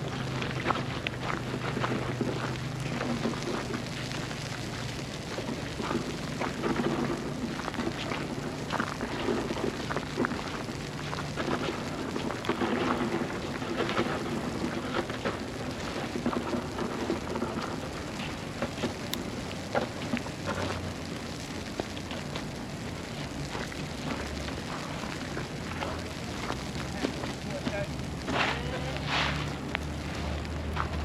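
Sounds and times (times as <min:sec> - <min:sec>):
crackling hiss of snowstorm: 0:00.0 - 0:31.0.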